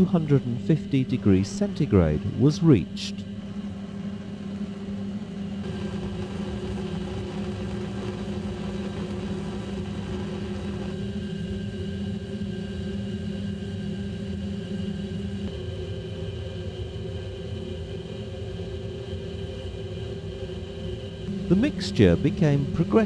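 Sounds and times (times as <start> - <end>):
bunsen burner flame rumbling: 0.0 - 23.0.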